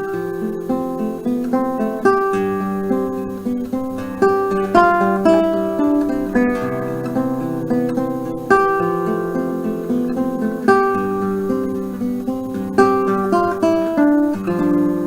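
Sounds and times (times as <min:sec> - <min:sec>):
acoustic guitar fingerpicking: 0:00.0 - 0:15.0.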